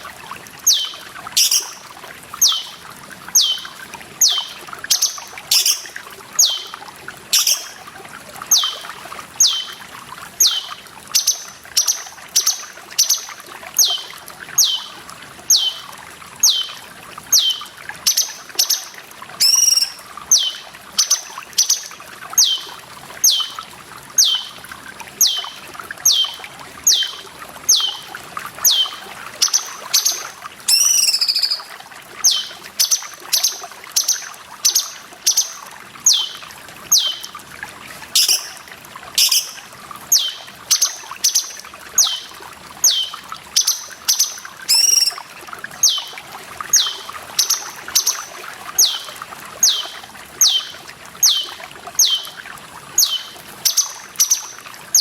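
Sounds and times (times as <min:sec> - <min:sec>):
water trickling: 0:00.0 - 0:55.0
warbling bird call: 0:00.7 - 0:02.8, 0:03.4 - 0:07.8, 0:08.5 - 0:08.8, 0:09.4 - 0:09.8, 0:10.4 - 0:23.6, 0:24.2 - 0:24.6, 0:25.2 - 0:37.4, 0:38.1 - 0:38.6, 0:39.2 - 0:52.4, 0:53.0 - 0:55.0.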